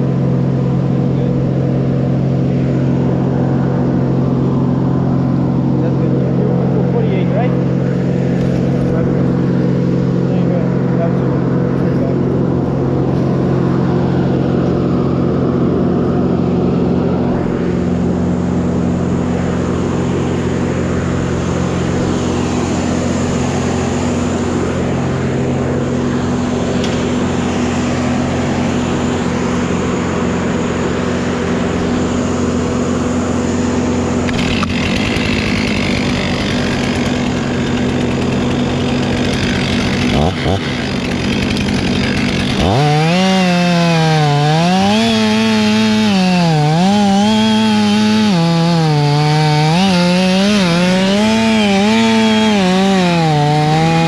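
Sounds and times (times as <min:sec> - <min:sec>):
large engine running: 0:00.0 - 0:54.0.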